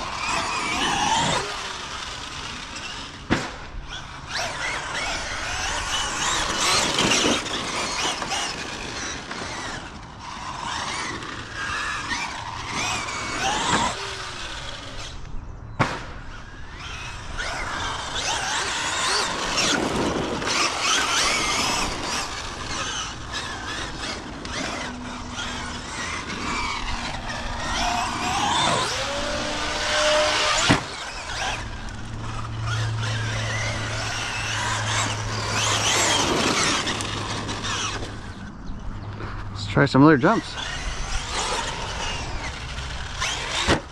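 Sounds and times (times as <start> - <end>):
tyres scrabbling on loose dirt: 0.0 - 15.2, 15.8 - 43.9
electric motor whining: 0.0 - 43.9.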